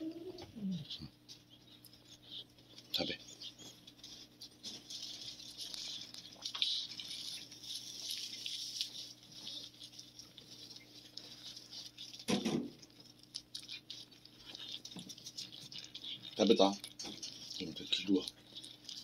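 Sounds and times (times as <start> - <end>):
cat chewing crunchy treat: 1.2 - 19.0.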